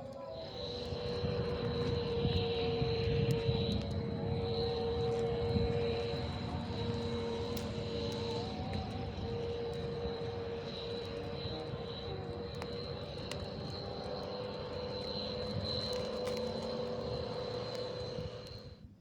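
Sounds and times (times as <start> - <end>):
high whistle: 0.0 - 18.9
low steady hum: 0.0 - 19.0
wind buffeting microphone: 0.0 - 19.0.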